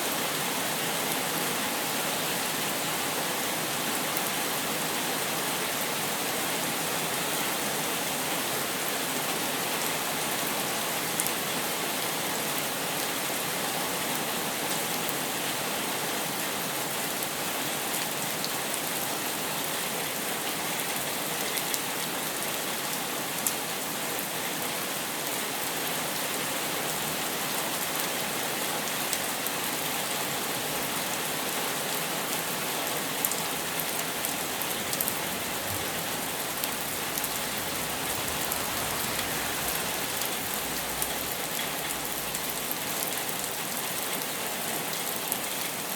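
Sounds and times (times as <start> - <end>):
rain falling: 0.1 - 45.9.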